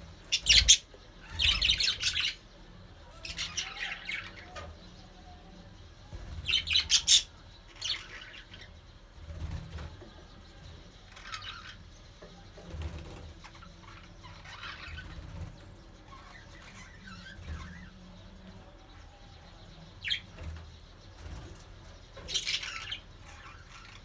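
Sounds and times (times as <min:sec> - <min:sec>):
budgerigars chirping: 0:00.0 - 0:05.4, 0:06.1 - 0:24.0.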